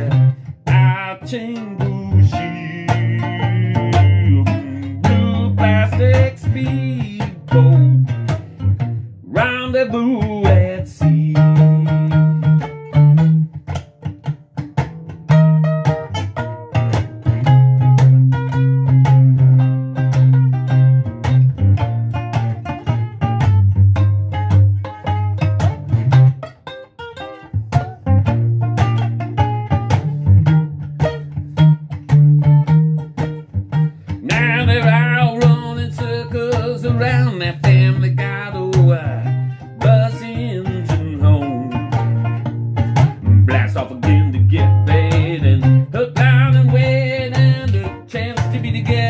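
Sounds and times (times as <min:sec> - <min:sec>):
steady bass line: 0:00.0 - 0:26.5, 0:27.5 - 0:49.0
plucked ukulele notes: 0:00.0 - 0:49.0.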